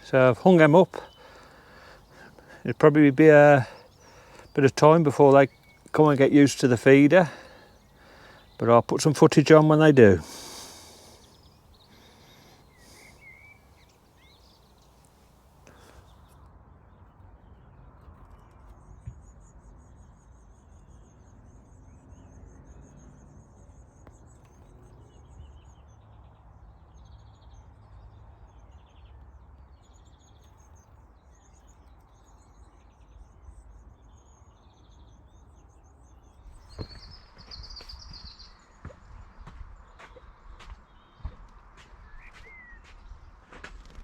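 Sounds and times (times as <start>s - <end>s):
small birds chirping: 0.0s - 17.1s, 18.0s - 44.0s.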